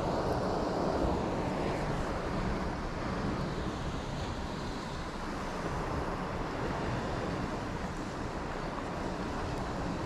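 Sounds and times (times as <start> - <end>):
sea surf: 0.0 - 10.0.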